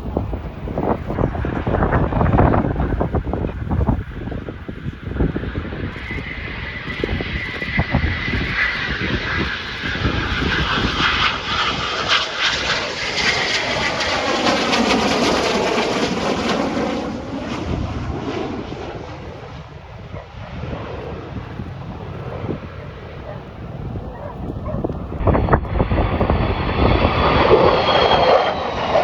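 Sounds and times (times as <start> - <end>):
plane flying past: 0.0 - 29.0
wind buffeting microphone: 0.0 - 29.0.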